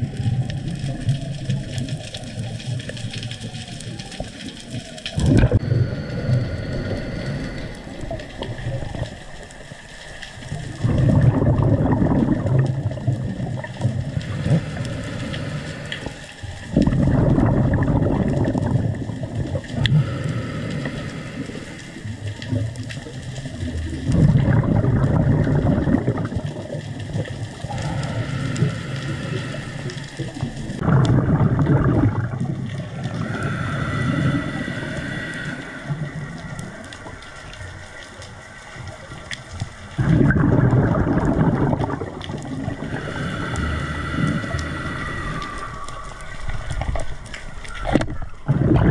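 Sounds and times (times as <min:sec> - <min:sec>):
underwater breath bubbling: 0:05.1 - 0:48.9.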